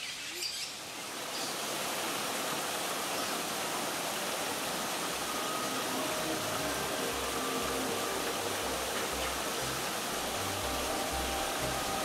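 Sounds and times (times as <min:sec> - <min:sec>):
flowing water rushing: 0:00.1 - 0:12.0.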